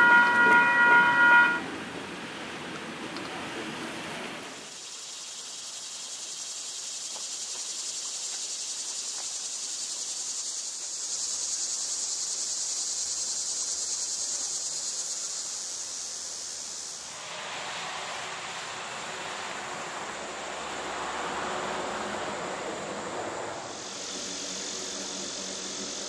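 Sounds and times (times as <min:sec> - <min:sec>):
high-pitched insect chorus: 0:04.6 - 0:26.0.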